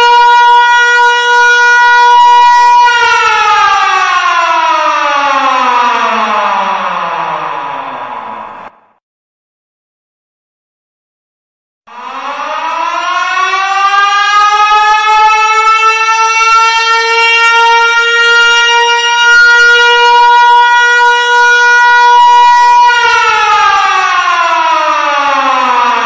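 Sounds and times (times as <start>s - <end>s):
loud siren: 0.0s - 9.0s, 11.9s - 26.0s.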